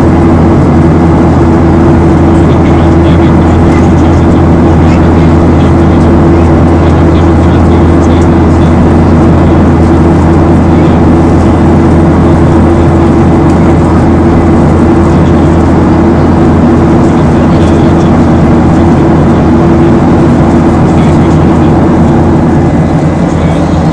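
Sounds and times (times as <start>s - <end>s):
jet engine drone in cabin: 0.0s - 23.9s
steady tones: 0.0s - 23.9s.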